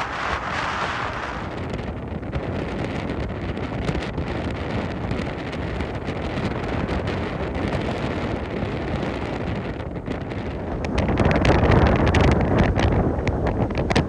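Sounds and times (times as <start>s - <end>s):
gusting wind buffeting microphone: 0.0s - 14.0s.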